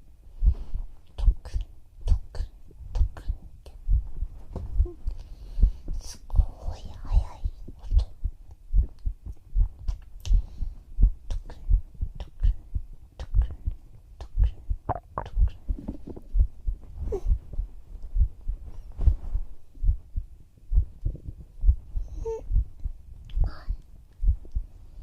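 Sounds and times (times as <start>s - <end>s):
heartbeat thumps: 0.4s - 25.0s.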